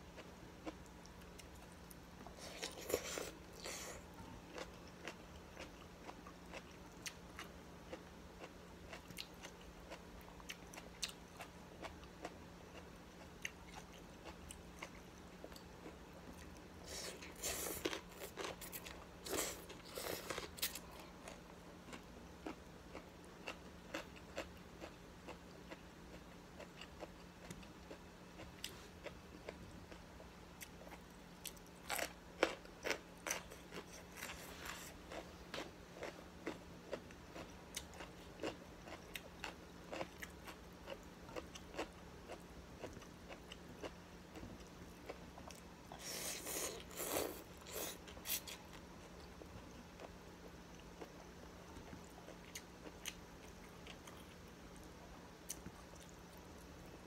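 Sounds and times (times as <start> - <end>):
faint low hum: 0.0 - 57.0
person chewing and crunching food: 0.1 - 57.0.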